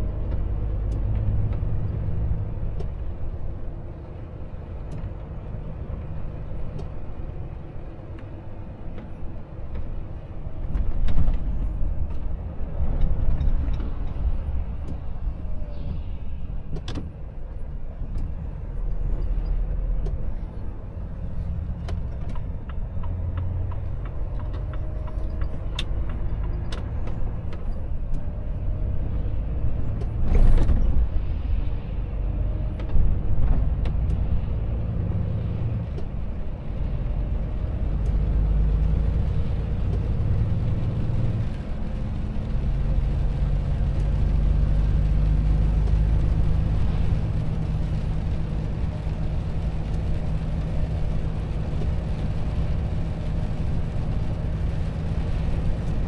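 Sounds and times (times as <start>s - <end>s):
truck diesel engine accelerating: 0.0s - 56.0s
tyres on wet road: 0.0s - 56.0s.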